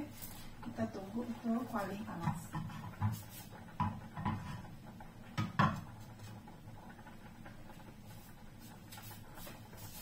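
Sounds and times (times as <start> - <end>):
gas stove burner hum: 0.0 - 10.0.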